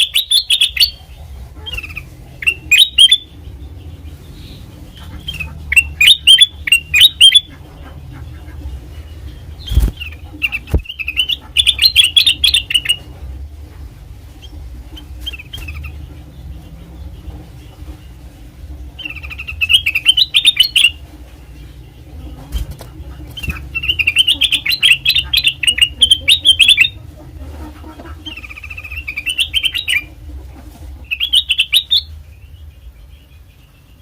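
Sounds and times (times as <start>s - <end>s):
bulbul singing: 0.0s - 13.2s, 14.4s - 27.2s, 27.8s - 30.2s, 31.0s - 34.0s
steady low hum: 0.0s - 34.0s.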